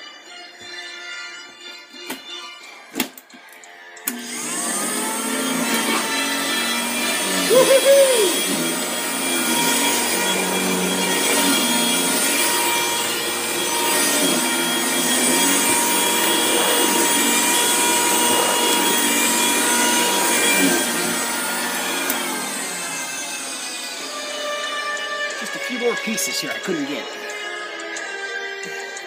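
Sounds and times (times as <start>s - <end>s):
vacuum cleaner motor whine: 4.0s - 29.0s.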